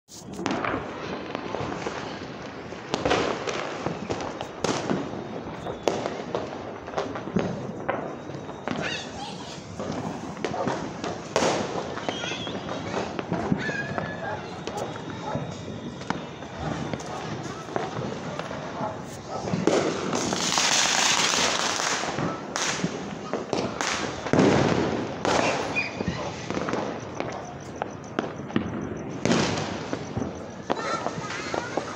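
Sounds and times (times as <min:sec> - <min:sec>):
distant fireworks bursting and crackling: 0:00.1 - 0:31.9
firecracker bangs: 0:00.1 - 0:31.9.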